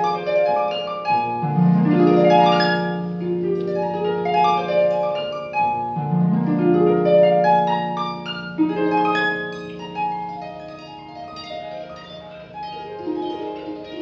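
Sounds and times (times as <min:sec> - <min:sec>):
harp arpeggios: 0:00.0 - 0:14.0.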